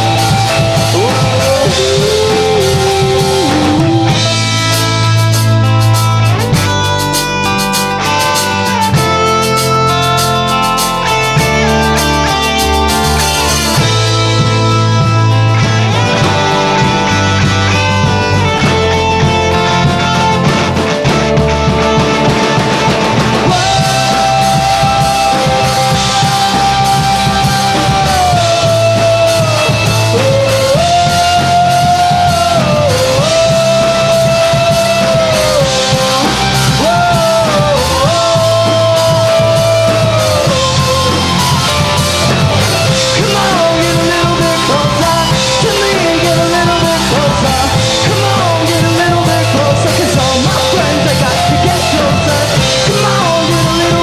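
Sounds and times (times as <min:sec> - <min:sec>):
drum kit: 0:00.0 - 0:54.0
electric guitars: 0:00.0 - 0:54.0
man singing: 0:00.0 - 0:54.0.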